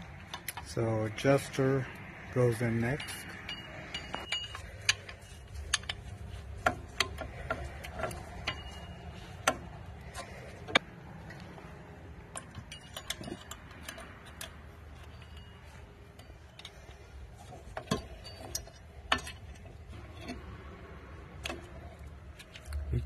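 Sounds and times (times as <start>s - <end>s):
metallic clicks of brake parts: 0.0s - 23.0s.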